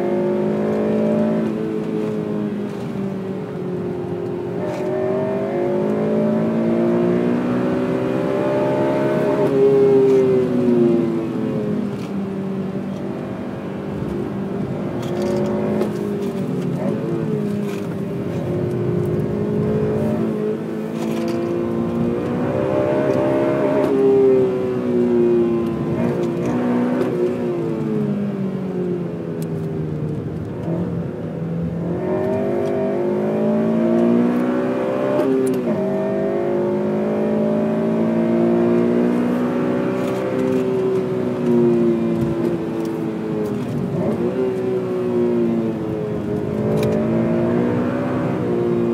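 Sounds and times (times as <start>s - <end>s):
car engine revving on track: 0.0s - 48.9s.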